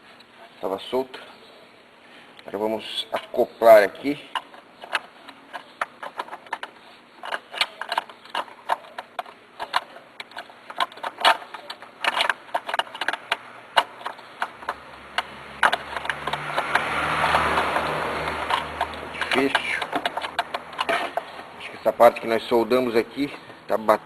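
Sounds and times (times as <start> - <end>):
metal clicks and knocks: 4.1 - 24.0.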